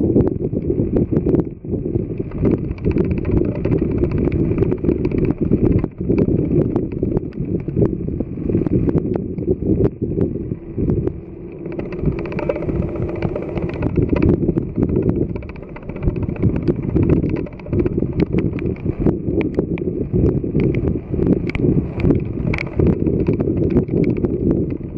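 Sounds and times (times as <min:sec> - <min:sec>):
faint jet engines: 0:00.0 - 0:24.9
wind buffeting microphone: 0:00.0 - 0:24.9
small clicks: 0:01.4 - 0:07.9, 0:11.0 - 0:24.9.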